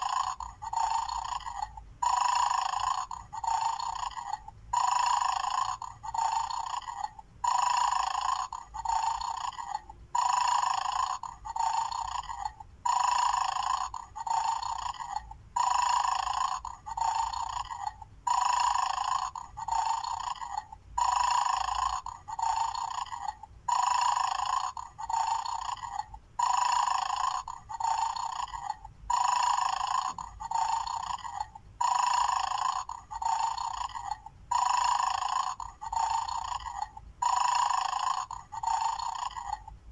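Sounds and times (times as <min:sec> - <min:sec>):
toy electronic snoring: 0:00.0 - 0:39.9.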